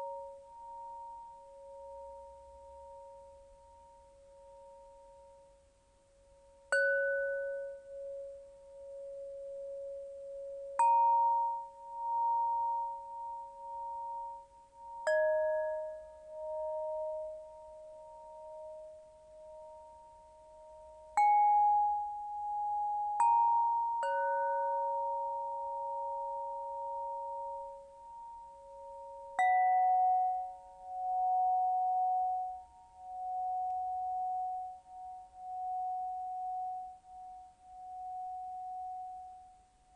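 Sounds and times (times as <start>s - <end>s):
crystal chime notes ringing: 6.4s - 39.6s.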